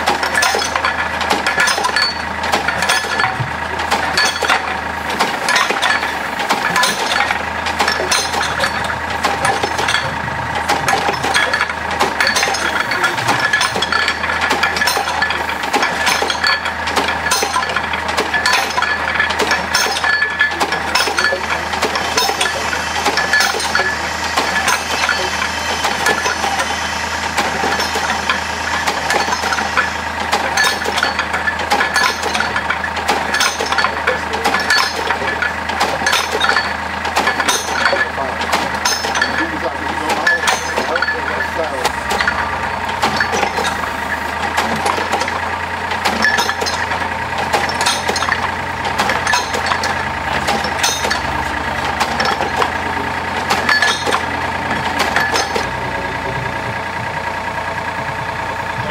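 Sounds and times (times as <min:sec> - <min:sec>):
engine hum: 0:00.0 - 0:58.9
metallic clinking and rattling: 0:00.0 - 0:58.9.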